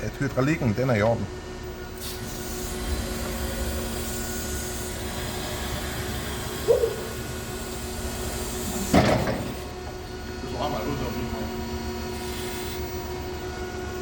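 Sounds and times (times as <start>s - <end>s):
electric forklift humming: 0.0s - 14.0s.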